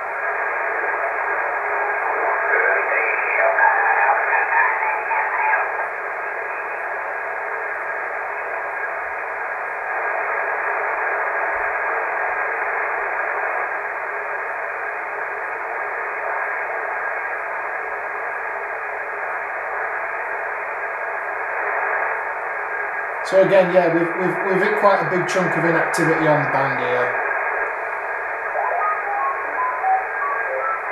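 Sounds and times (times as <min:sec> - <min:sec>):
radio static hiss: 0:00.0 - 0:30.9.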